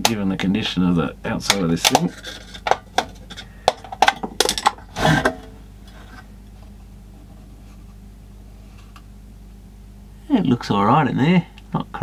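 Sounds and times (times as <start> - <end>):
faint steady low hum: 0.0 - 12.0.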